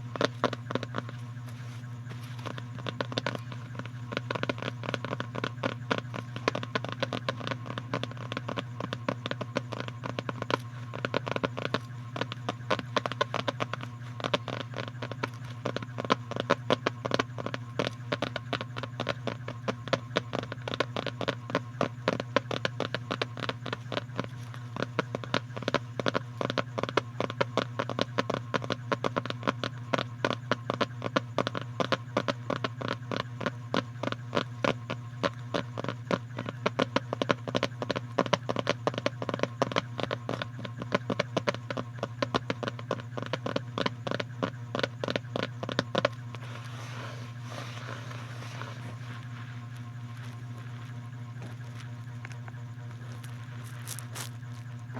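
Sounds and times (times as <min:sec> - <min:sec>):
quick irregular clicking and tapping: 0:00.0 - 0:54.9
steady low hum: 0:00.0 - 0:54.9.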